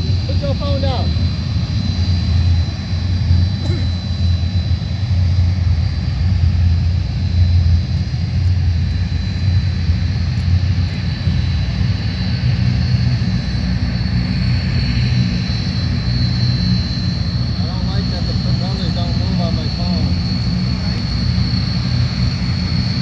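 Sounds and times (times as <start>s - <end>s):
high engine whine: 0.0s - 23.0s
turboprop engines droning: 0.0s - 23.0s.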